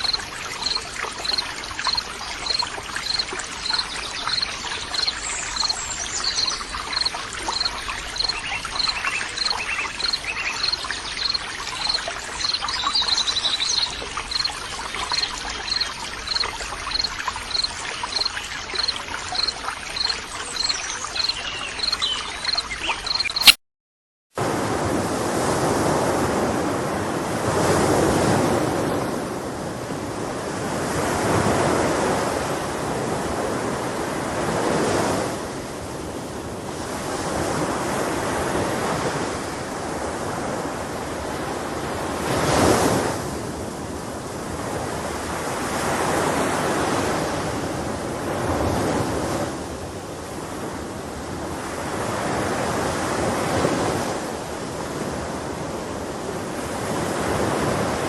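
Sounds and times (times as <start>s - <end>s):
sea waves breaking: 0.0s - 23.6s, 24.4s - 58.0s.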